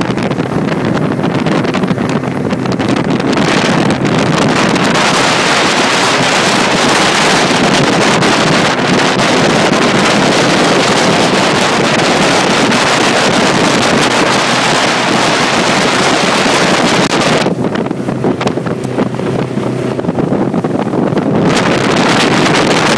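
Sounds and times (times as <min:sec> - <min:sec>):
wind rushing over microphone: 0:00.0 - 0:22.9.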